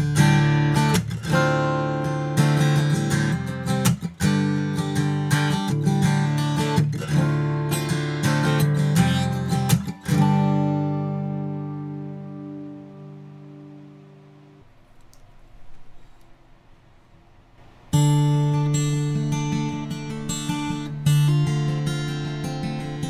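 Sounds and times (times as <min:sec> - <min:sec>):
acoustic guitar strumming: 0:00.0 - 0:14.6, 0:17.6 - 0:23.0.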